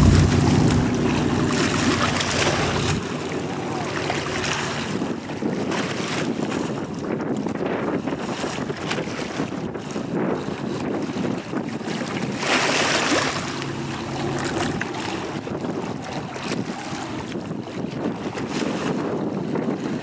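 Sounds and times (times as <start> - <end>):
ferry engines and bow wave: 0.0 - 20.0
wind buffeting microphone: 0.0 - 20.0.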